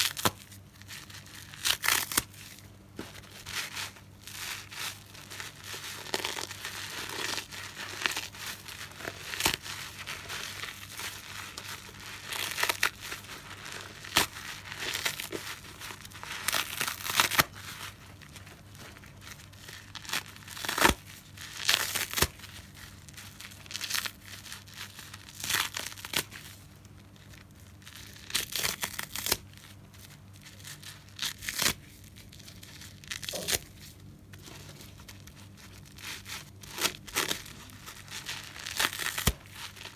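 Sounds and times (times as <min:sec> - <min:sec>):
sponge being squeezed and torn: 0:00.0 - 0:02.6, 0:03.3 - 0:26.6, 0:27.2 - 0:29.7, 0:30.4 - 0:39.9.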